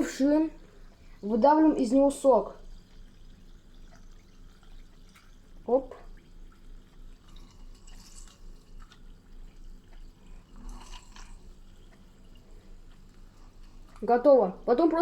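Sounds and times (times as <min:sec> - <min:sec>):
juice dripping: 0:00.0 - 0:15.0.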